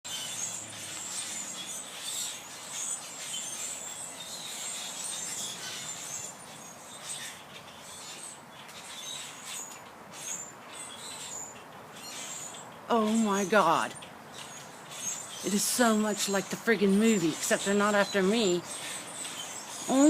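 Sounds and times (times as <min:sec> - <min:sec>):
flock of birds chirping: 0:00.1 - 0:20.0.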